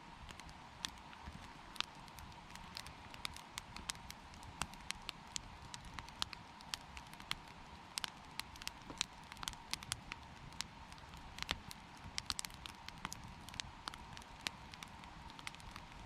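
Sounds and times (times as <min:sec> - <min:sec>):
soft background hiss: 0:00.0 - 0:16.0
campfire crackling and popping: 0:00.1 - 0:16.0.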